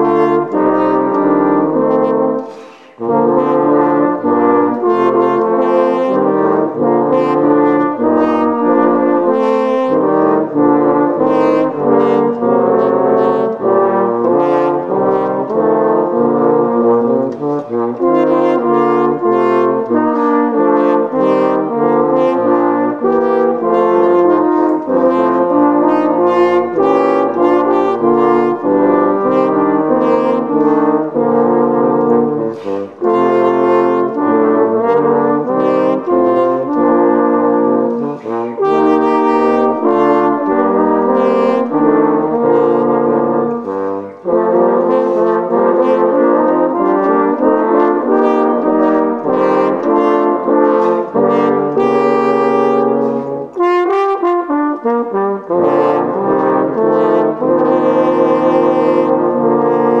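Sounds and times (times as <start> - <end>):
french horns playing chords: 0.0 - 60.0.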